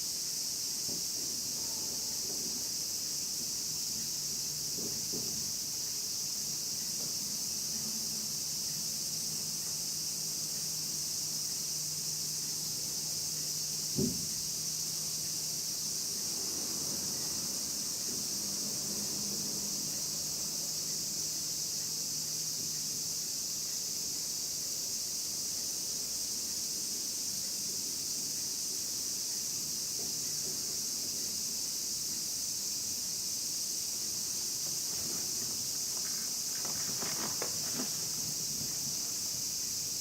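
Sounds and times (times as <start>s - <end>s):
cicadas chorus: 0.0s - 40.0s.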